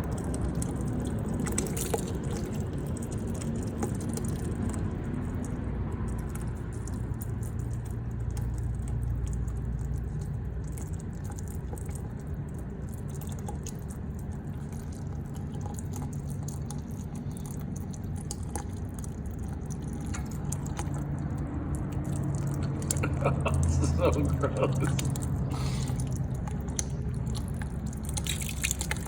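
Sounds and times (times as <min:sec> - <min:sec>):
oil dripping and pouring: 0:00.0 - 0:29.0.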